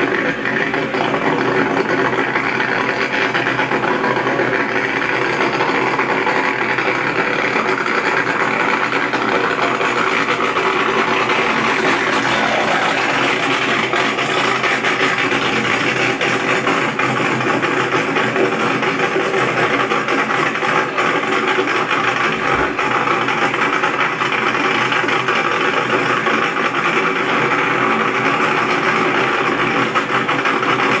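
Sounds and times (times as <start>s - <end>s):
racing car engine running loudly: 0.0s - 31.0s.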